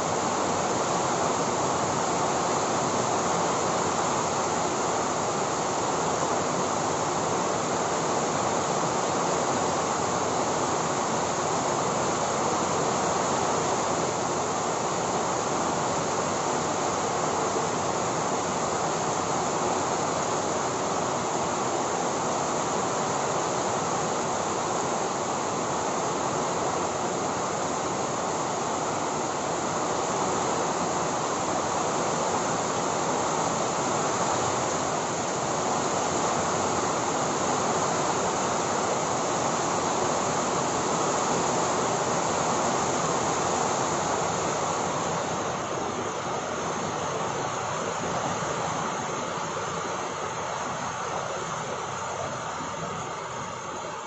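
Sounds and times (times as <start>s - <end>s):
heavy rain on foliage: 0.0s - 54.0s.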